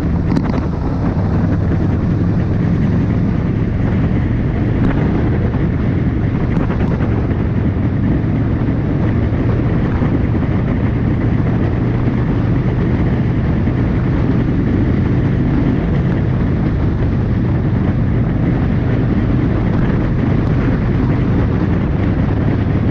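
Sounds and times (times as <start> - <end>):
motorcycle engine drone: 0.0 - 22.9
rushing wind noise: 0.0 - 22.9.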